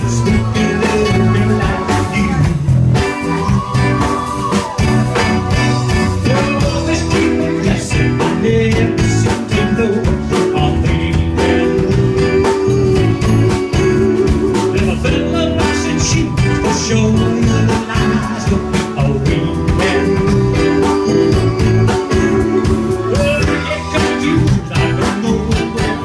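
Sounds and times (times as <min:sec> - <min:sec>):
live blues rock band: 0:00.0 - 0:26.0
person singing: 0:00.0 - 0:26.0.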